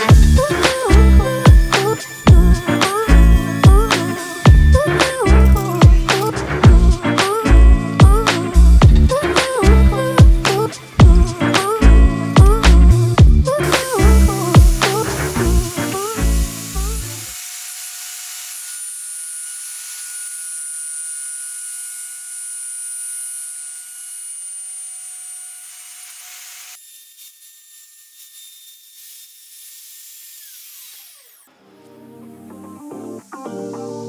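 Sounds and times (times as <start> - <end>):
power tool cutting wood: 0.0 - 34.0.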